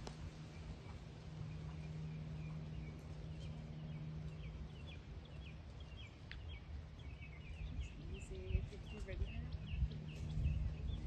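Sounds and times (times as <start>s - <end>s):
low rumble: 0.0s - 11.0s
low steady hum: 0.0s - 11.0s
small bird chirping: 0.5s - 11.0s.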